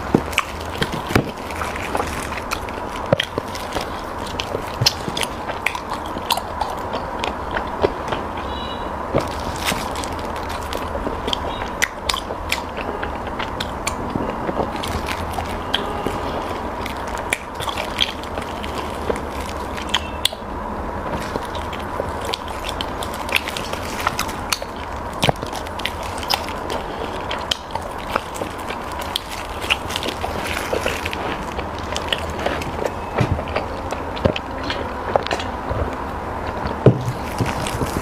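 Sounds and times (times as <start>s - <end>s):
background hum: 0.0s - 38.0s
person chewing: 0.0s - 38.0s.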